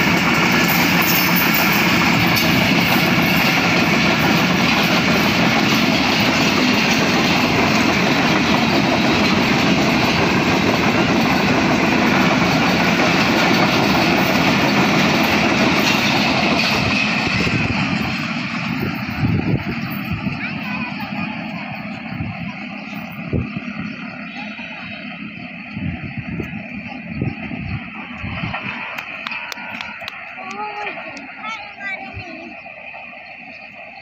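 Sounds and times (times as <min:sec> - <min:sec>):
train wheels rumbling and rattling: 0:00.0 - 0:34.0.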